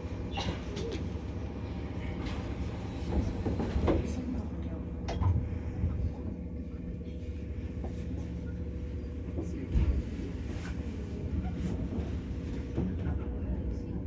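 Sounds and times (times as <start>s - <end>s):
train car running rumble: 0.0s - 14.0s.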